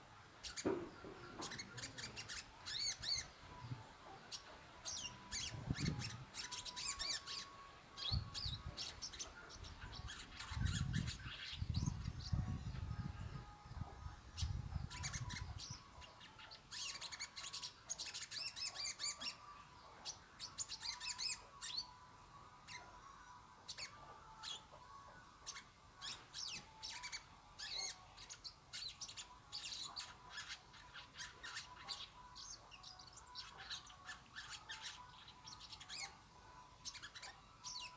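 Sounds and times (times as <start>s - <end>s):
songbirds chirping: 0.0s - 37.9s.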